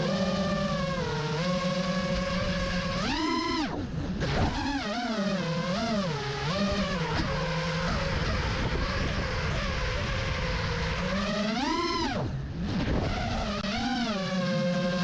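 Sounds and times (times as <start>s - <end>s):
drone motors and propellers: 0.0s - 15.0s
sharp rising motor whine: 0.0s - 15.0s.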